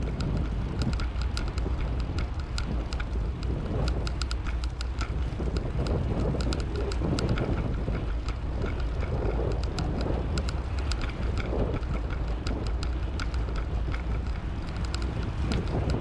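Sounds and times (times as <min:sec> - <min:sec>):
small ticks and rattles: 0:00.0 - 0:16.0
wind rushing over microphone: 0:00.0 - 0:16.0.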